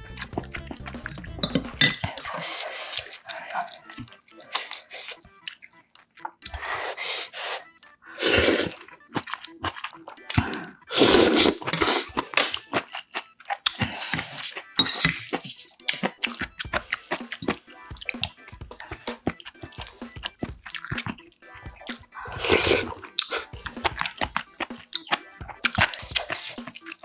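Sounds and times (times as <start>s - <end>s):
chewing and wet mouth noises: 0.3s - 27.0s.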